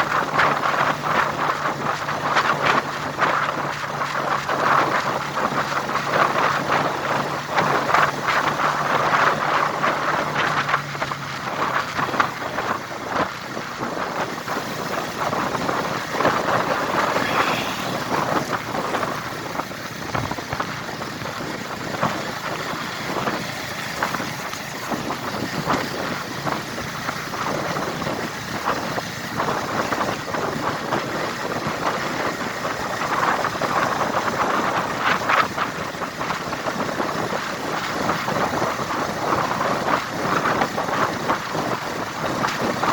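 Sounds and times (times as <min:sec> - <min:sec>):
vehicle travelling on road: 0:00.0 - 0:42.9.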